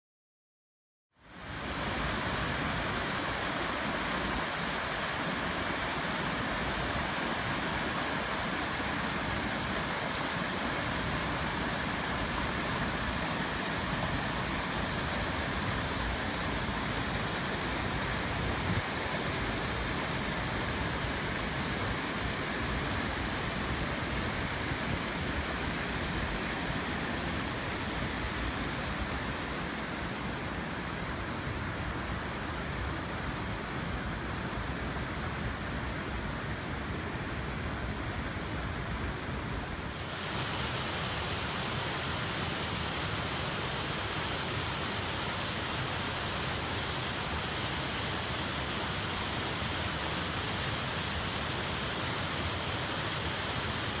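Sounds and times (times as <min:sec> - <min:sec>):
creek rushing over boulders: 0:01.2 - 0:54.0.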